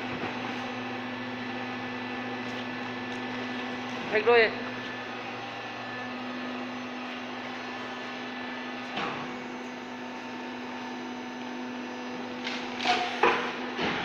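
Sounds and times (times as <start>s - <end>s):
baling press motor humming: 0.0s - 14.0s.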